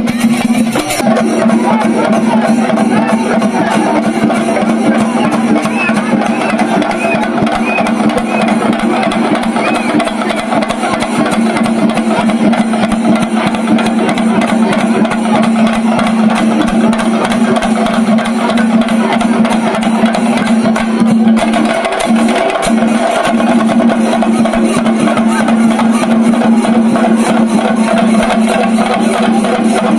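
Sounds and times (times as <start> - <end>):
fast continuous drumming: 0.0 - 29.9.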